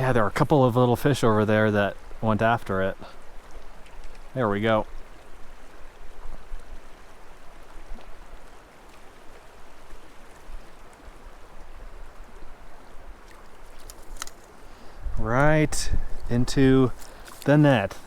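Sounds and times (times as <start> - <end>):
creek babbling over rocks: 0.0 - 18.0.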